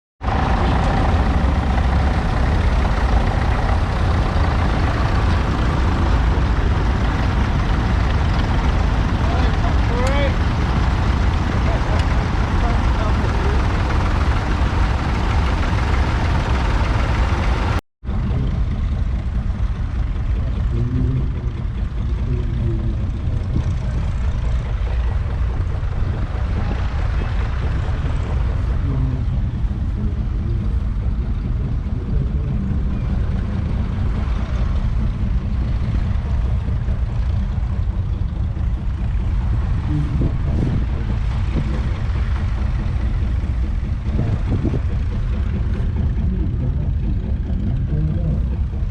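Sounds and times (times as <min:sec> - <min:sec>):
tractor engine running: 0:00.2 - 0:48.9.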